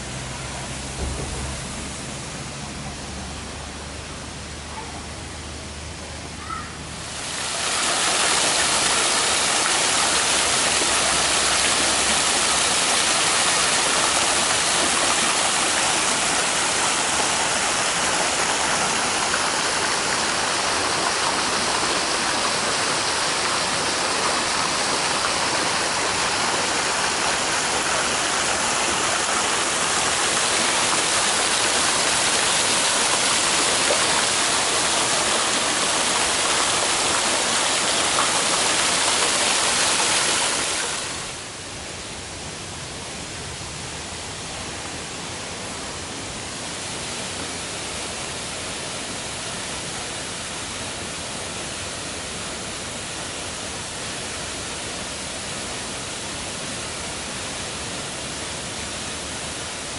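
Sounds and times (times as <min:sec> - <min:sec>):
fountain water splashing: 0:00.0 - 0:59.9.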